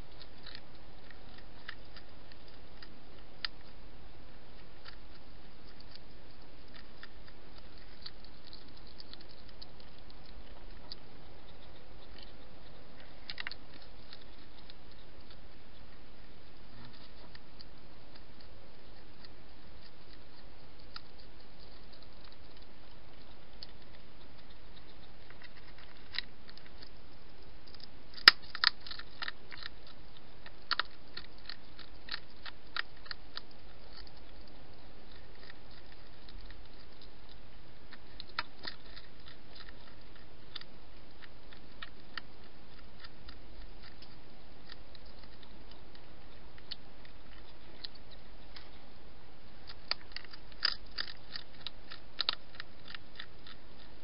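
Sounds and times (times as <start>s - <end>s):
hedgehog chewing: 0.0s - 54.0s
steady low hiss: 0.0s - 54.0s.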